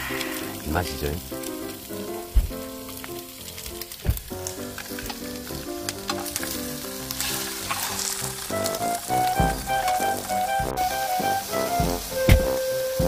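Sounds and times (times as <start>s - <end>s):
eel fillets sizzling on grill pan: 0.0s - 13.0s.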